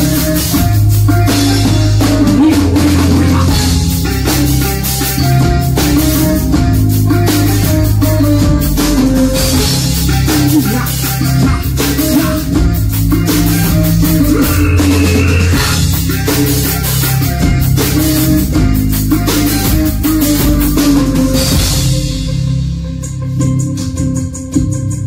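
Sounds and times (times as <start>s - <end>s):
drum kit: 0.0s - 25.0s
electric bass: 0.0s - 25.0s
keyboards: 0.0s - 25.0s.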